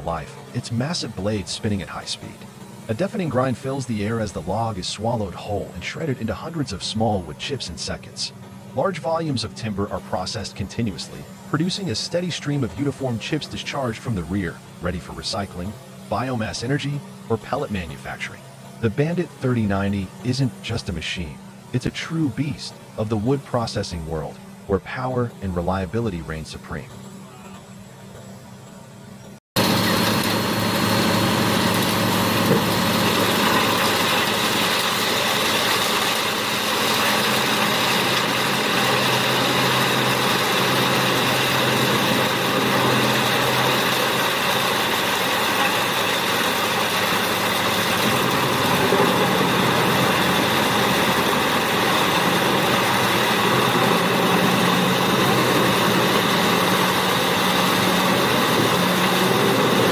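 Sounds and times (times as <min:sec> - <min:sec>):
wood chipper diesel engine: 0:00.0 - 0:59.9.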